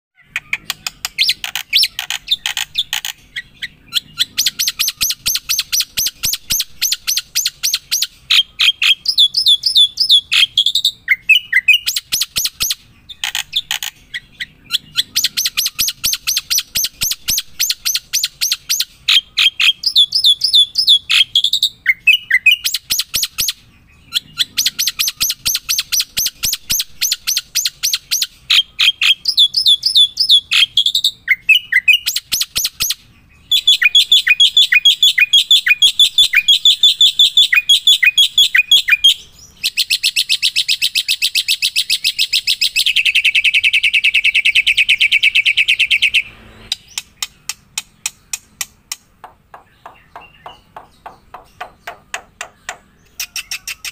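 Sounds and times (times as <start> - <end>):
bird chirping: 0.1 - 53.9.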